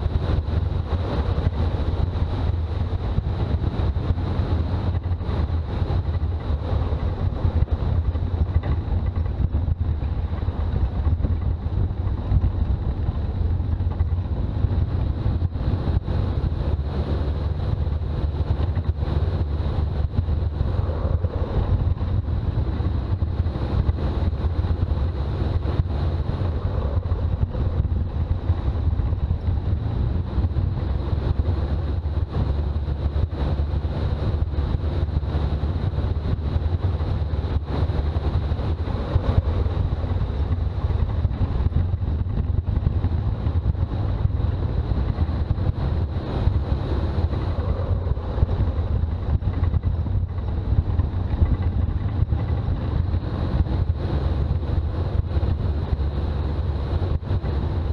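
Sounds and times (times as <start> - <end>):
vehicle engine and road drone: 0.0 - 57.9.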